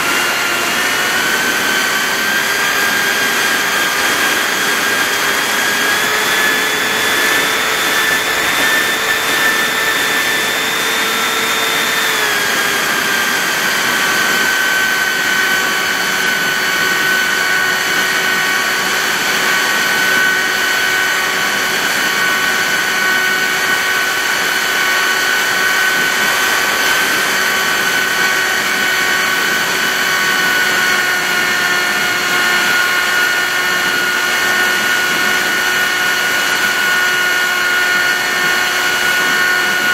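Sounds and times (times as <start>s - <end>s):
model airplane motor whine: 0.0s - 39.9s.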